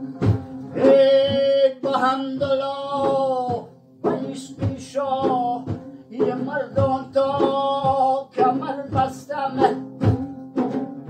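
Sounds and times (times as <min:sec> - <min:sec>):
plucked string instrument: 0:00.0 - 0:11.0
regular beat: 0:00.0 - 0:11.0
man singing devotional song: 0:00.7 - 0:09.9.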